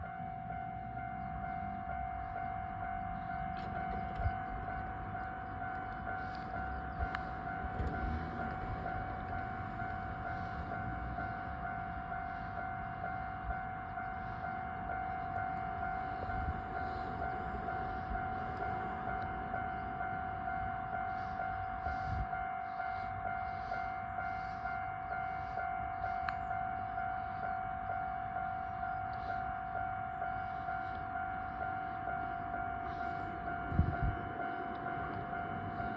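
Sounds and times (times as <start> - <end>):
level crossing alarm pulsing: 0.0 - 35.9.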